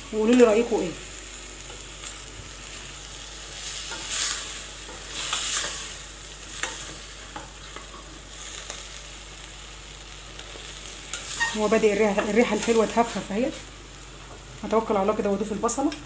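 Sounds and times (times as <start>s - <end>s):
beans sizzling in oil: 0.0s - 16.0s.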